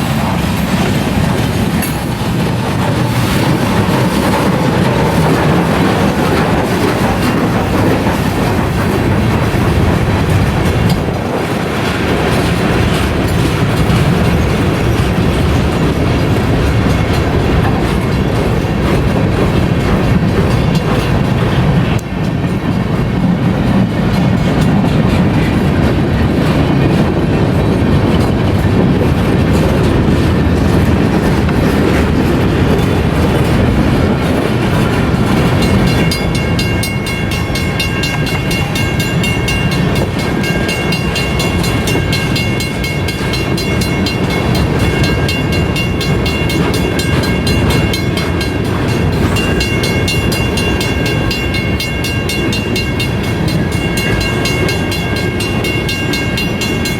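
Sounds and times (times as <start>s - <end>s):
crossing bell ringing rapidly: 0.0s - 25.8s, 26.4s - 56.9s
freight train rumbling past: 0.0s - 56.9s.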